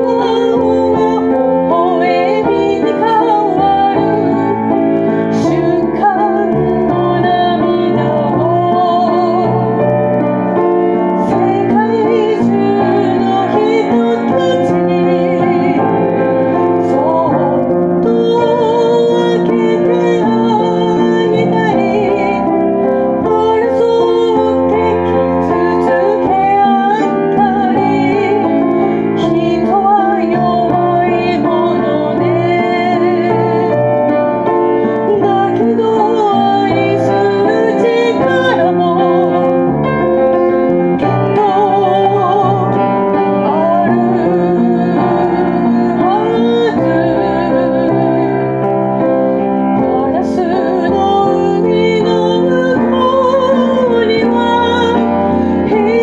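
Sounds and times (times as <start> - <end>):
woman singing pop ballad: 0.0 - 9.9, 11.1 - 56.0
piano accompaniment: 0.0 - 56.0.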